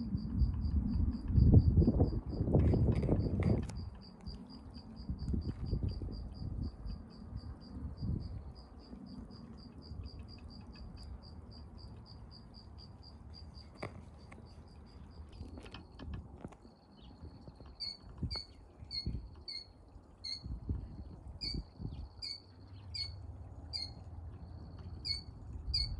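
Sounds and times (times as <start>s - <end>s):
cricket chirping: 0.0s - 25.9s.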